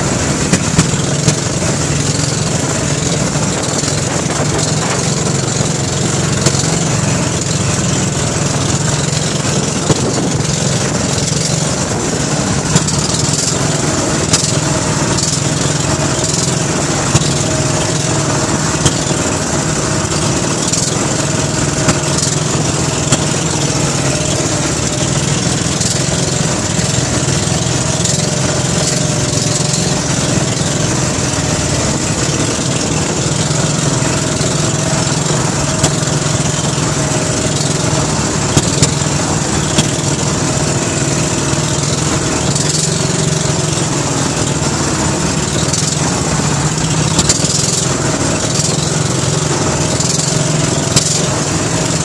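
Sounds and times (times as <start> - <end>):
boat engine running: 0.0 - 52.0
boat knocking on waves: 0.0 - 52.0
water rushing along hull: 0.0 - 52.0.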